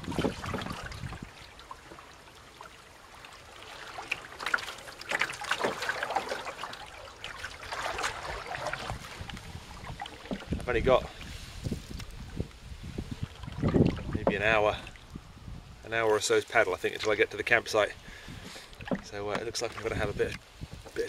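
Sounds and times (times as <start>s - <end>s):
paddle strokes splashing: 0.0s - 15.2s, 16.3s - 21.0s
water trickling and splashing: 0.0s - 21.0s.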